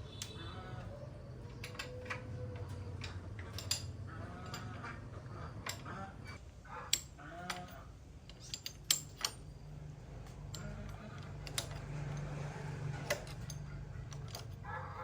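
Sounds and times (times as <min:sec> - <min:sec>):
metal tools clicking and clinking: 0:00.1 - 0:15.0.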